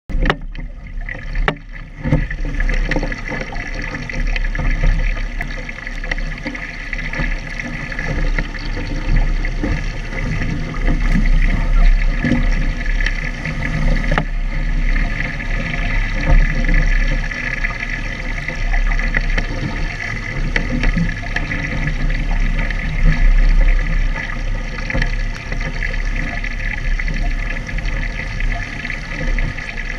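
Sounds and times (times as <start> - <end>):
water splashing along hull: 0.1 - 29.9
wind rumble on microphone: 0.1 - 29.9.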